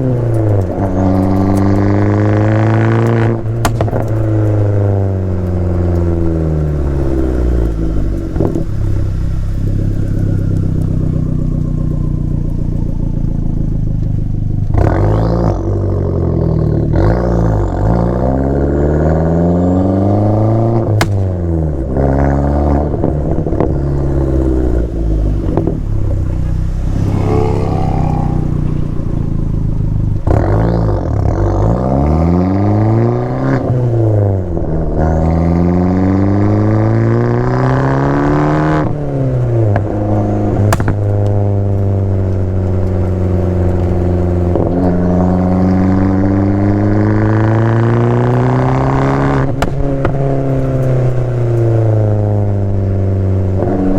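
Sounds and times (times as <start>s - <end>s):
car engine revving through gears: 0.0s - 53.9s.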